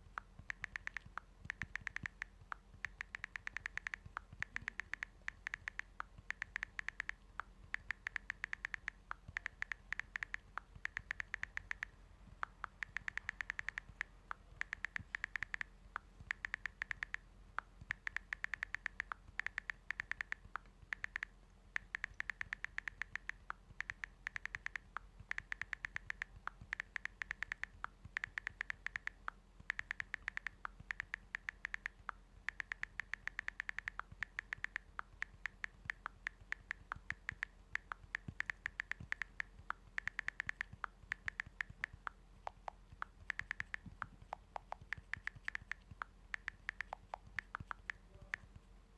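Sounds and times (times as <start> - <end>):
touchscreen typing taps: 0.0 - 48.7.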